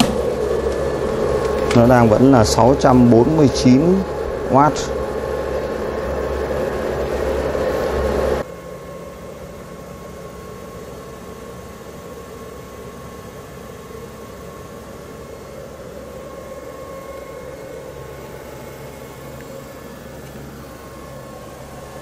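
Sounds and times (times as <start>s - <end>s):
faint steady whine: 0.0s - 22.0s
inverter electrical hum and fan: 0.0s - 22.0s.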